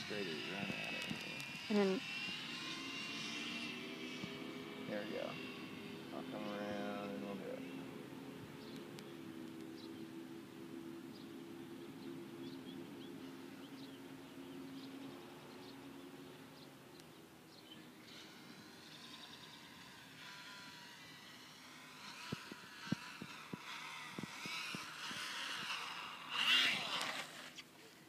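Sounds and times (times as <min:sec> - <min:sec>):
birds chirping: 0:00.0 - 0:28.0
model plane motor buzzing: 0:00.0 - 0:28.0.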